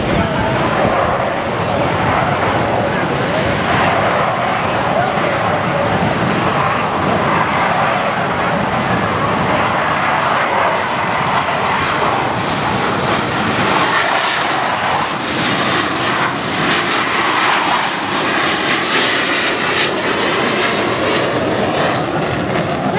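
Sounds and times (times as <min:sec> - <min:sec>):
jet engine flying past: 0:00.0 - 0:22.9.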